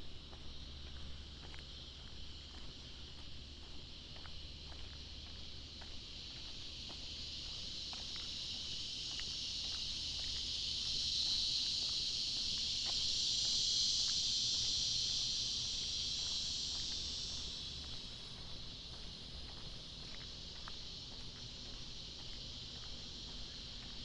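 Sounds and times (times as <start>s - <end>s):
footsteps on pavement: 0.0s - 24.0s
insects droning: 0.0s - 24.0s.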